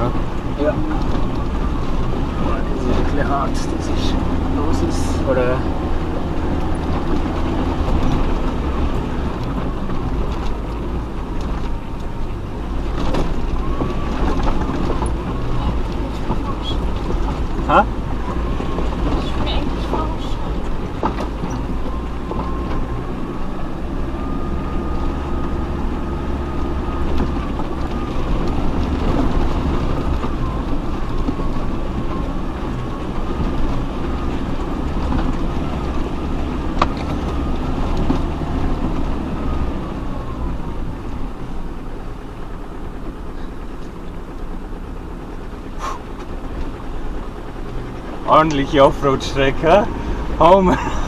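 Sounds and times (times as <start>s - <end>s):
drivetrain whine: 0.0s - 51.0s
off-road vehicle engine rumbling: 0.0s - 51.0s.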